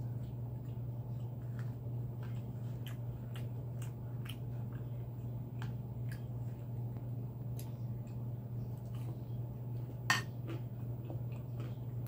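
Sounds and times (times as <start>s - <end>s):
chewing clicks and squishes: 0.0s - 12.0s
steady low hum: 0.0s - 12.0s.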